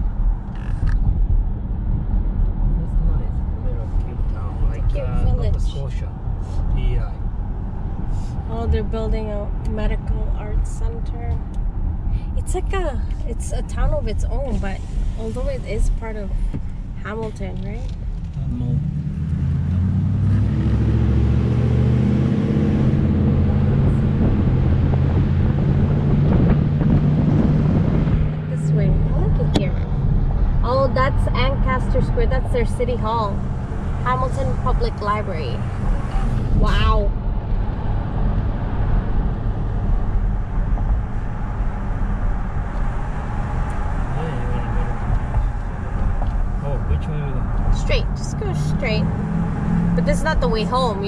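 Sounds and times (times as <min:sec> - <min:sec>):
car engine drone: 0:00.0 - 0:51.0
road noise: 0:00.0 - 0:51.0.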